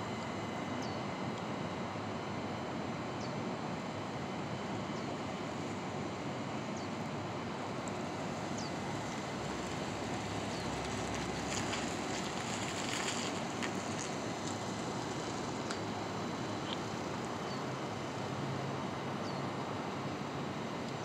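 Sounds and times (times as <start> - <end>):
outdoor rushing background noise: 0.1 - 21.0.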